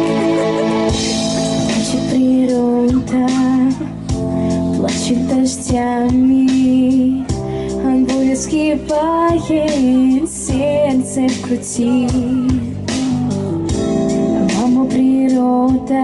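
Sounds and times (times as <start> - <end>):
woman singing: 0.0 - 13.7, 14.4 - 16.0
pop song instrumental backing: 0.0 - 16.0.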